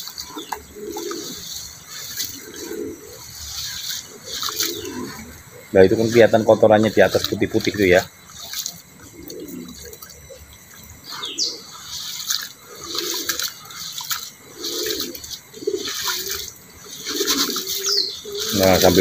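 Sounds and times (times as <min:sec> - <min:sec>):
corn kernels sloshing in water: 0:00.0 - 0:19.0.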